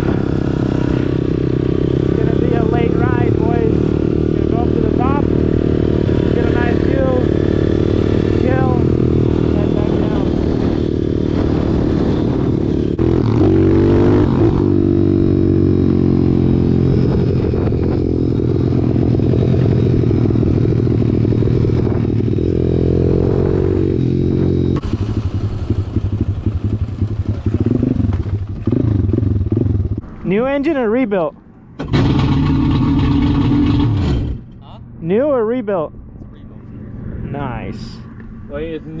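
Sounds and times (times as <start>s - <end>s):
motorbike engines revving: 0.0s - 39.0s.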